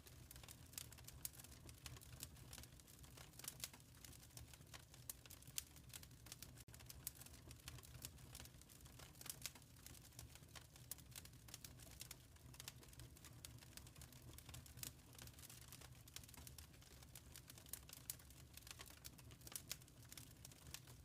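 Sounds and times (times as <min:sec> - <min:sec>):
low rumble of burning: 0:00.0 - 0:21.0
wood fire crackling: 0:00.0 - 0:21.0.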